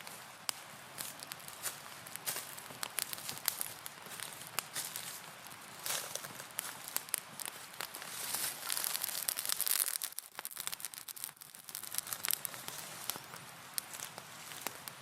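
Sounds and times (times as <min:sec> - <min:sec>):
dry material crackling and rustling: 0:00.0 - 0:15.0.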